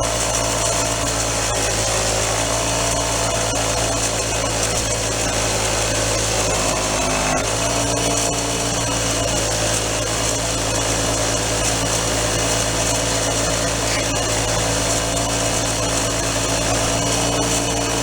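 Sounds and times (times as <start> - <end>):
wire wheel scrubbing metal: 0.0 - 18.0.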